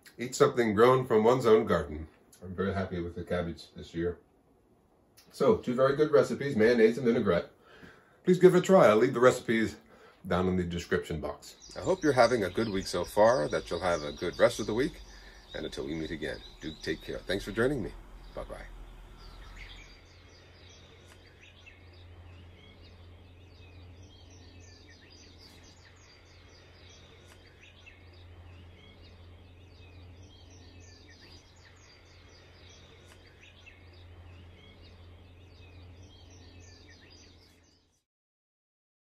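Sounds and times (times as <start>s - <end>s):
steady low hum: 0.0s - 37.5s
faint birds chirping: 0.0s - 38.0s.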